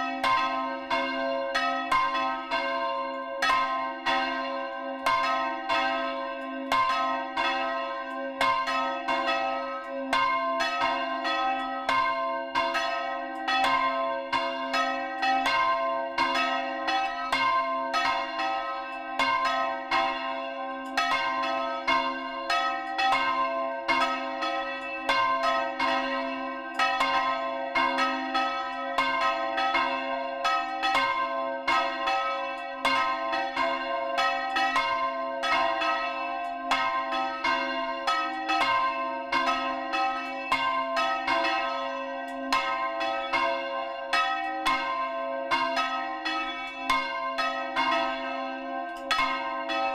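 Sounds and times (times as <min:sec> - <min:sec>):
church bell ringing: 0:00.0 - 0:49.9.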